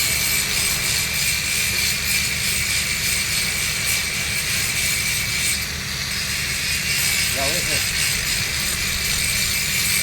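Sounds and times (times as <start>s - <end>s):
welding arc hissing and crackling: 0.0s - 10.0s.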